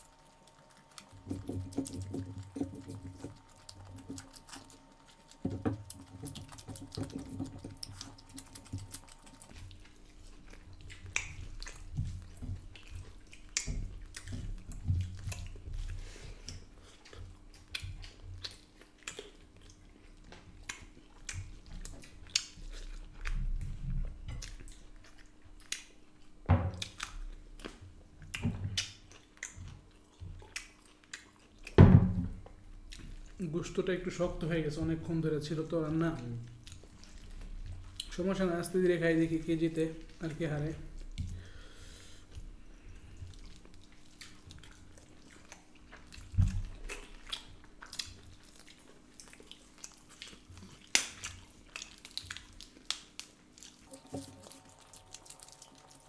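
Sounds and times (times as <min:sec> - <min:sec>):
close chewing and biting: 0:00.0 - 0:56.0
faint steady hum: 0:00.0 - 0:56.0.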